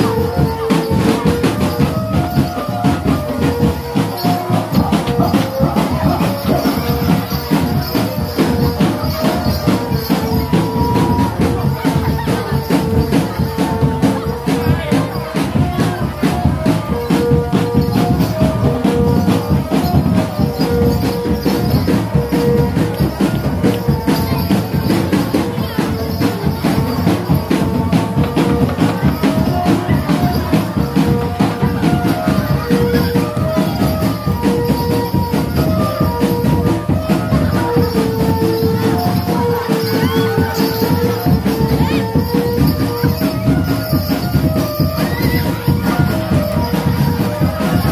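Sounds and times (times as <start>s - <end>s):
fast dense percussion: 0.0s - 47.9s.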